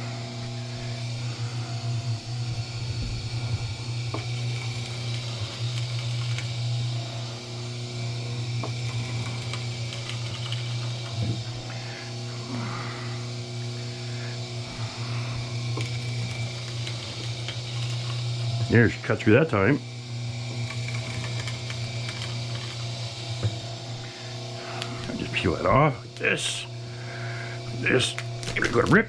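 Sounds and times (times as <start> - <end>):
wire stripping machine humming: 0.0 - 29.0.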